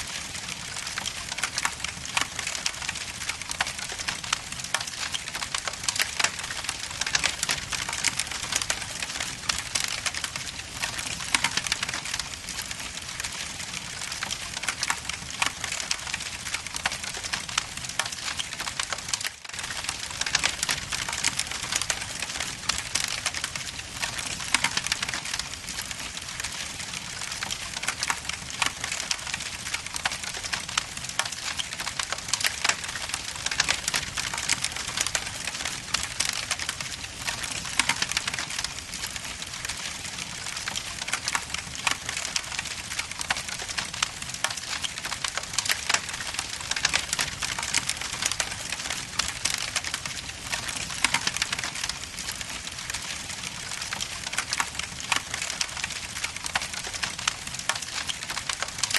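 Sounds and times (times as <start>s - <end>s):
wood logs crackling: 0.0s - 58.9s.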